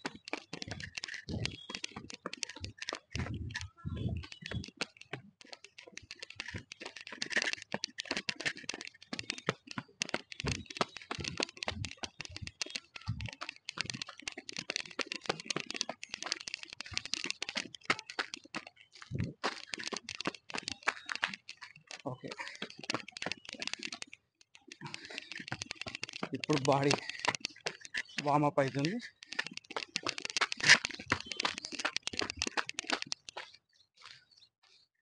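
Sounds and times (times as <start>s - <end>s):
microphone handling clicks and rustling: 0.0s - 34.8s.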